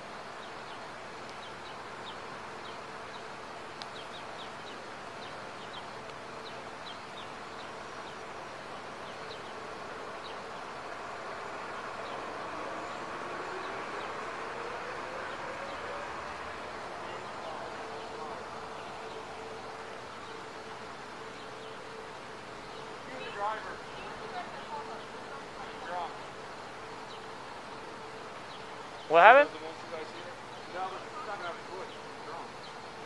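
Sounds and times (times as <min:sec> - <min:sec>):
steady hiss: 0:00.0 - 0:33.0.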